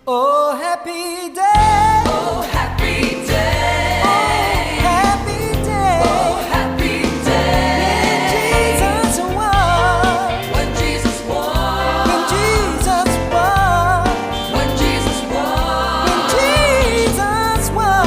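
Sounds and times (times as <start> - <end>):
person singing: 0.0 - 2.7, 4.0 - 6.7, 7.3 - 18.0
steady music beat: 1.6 - 18.0.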